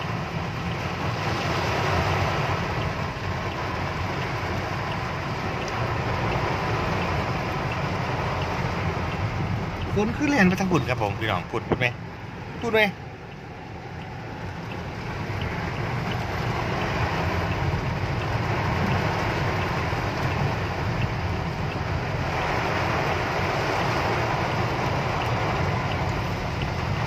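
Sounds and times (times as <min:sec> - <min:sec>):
heavy rain on a car: 0:00.0 - 0:27.0.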